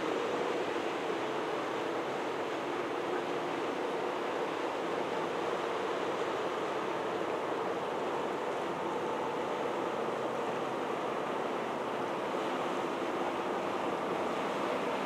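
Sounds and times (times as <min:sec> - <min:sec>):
water rushing: 0:00.0 - 0:15.0
wind: 0:00.0 - 0:15.0.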